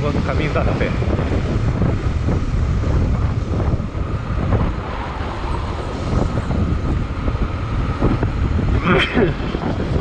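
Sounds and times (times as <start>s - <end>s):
wind noise on microphone: 0.0s - 10.0s.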